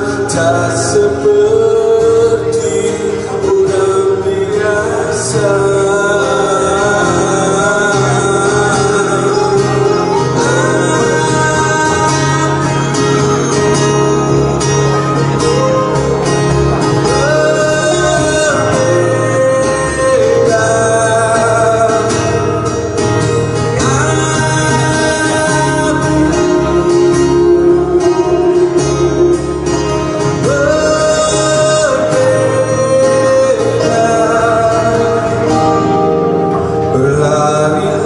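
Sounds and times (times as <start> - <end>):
electric bass guitar: 0.0 - 38.0
man singing: 0.0 - 38.0
strummed acoustic guitars: 0.0 - 38.0.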